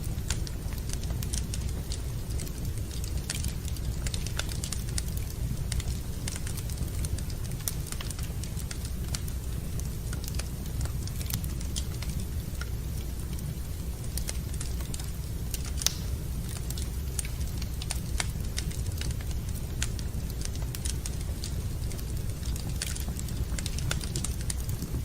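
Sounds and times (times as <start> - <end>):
low steady rumble: 0.0 - 25.0
wood fire crackling and popping: 0.0 - 25.0.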